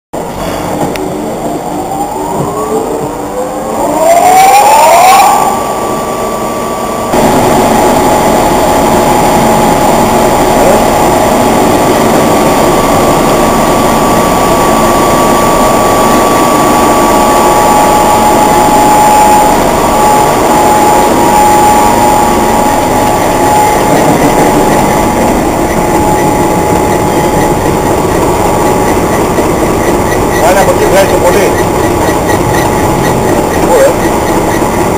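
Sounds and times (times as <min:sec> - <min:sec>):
machine running with whine: 0:00.2 - 0:34.9.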